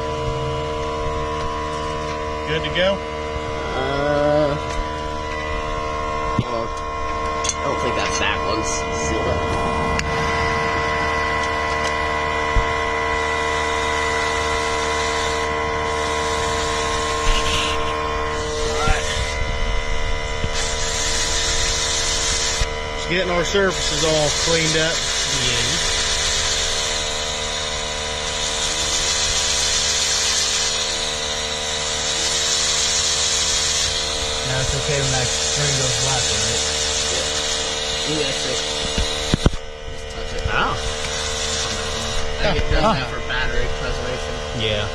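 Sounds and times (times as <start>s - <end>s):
heat gun whine and airflow: 0.0s - 44.9s.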